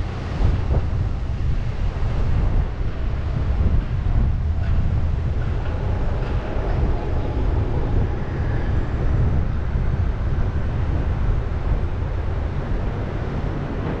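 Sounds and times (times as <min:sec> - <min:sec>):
city traffic: 0:00.0 - 0:14.0
road noise: 0:00.0 - 0:14.0
wind buffeting microphone: 0:00.0 - 0:14.0.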